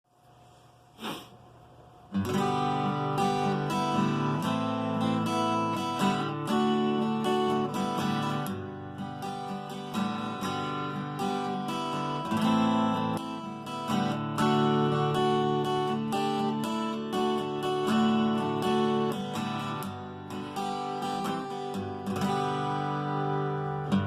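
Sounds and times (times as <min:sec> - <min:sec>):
acoustic guitar strumming: 0:02.1 - 0:24.0.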